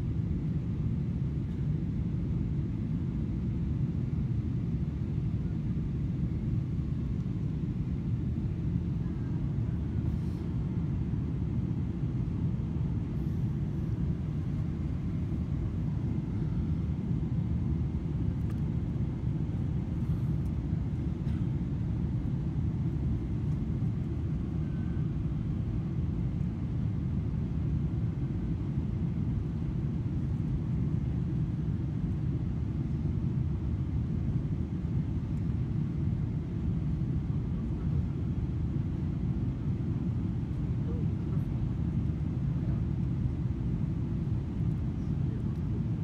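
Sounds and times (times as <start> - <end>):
airplane engines rumbling in cabin: 0.0 - 46.0.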